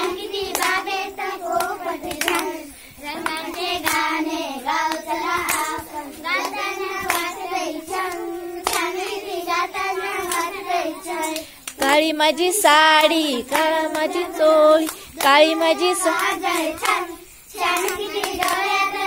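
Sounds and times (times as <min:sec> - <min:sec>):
girls singing together: 0:00.0 - 0:19.0
hand claps: 0:00.0 - 0:19.0.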